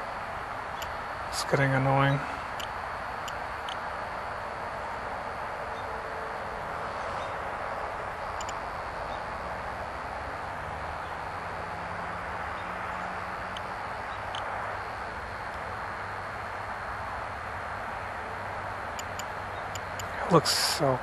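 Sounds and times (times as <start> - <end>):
low hum: 0.0 - 21.0
outdoor background rush: 0.0 - 21.0.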